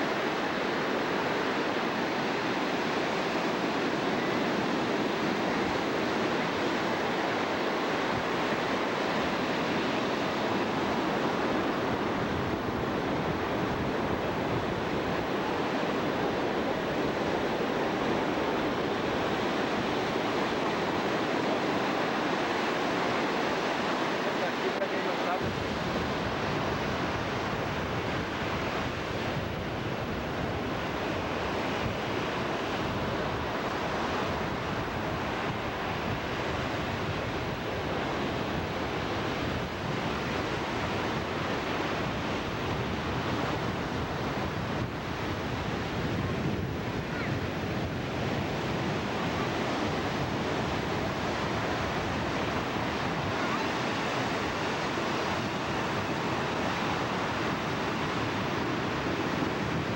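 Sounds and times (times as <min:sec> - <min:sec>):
wind on microphone: 0:00.0 - 0:24.3, 0:25.3 - 0:59.9
rushing water: 0:00.0 - 0:59.9.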